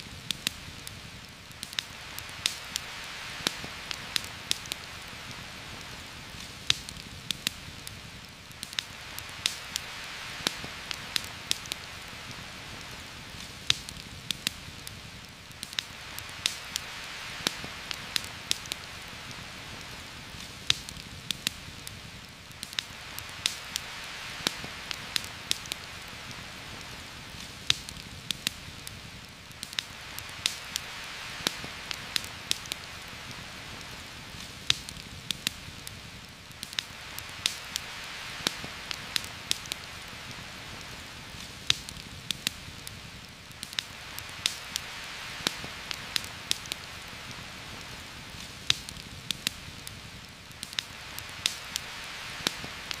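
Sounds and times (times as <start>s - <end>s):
campfire crackling and popping: 0.0s - 53.0s
heavy rain on leaves: 0.0s - 53.0s.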